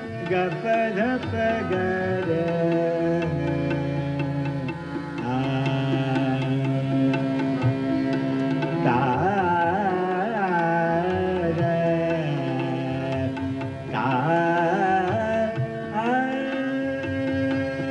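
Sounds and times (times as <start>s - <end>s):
man singing classical song: 0.0s - 7.5s, 8.7s - 17.9s
tanpura drone: 0.0s - 17.9s.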